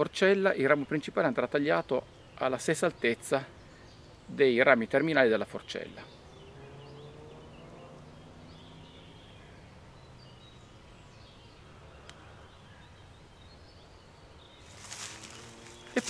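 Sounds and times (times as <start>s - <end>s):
distant bird chirps: 0.0s - 16.0s.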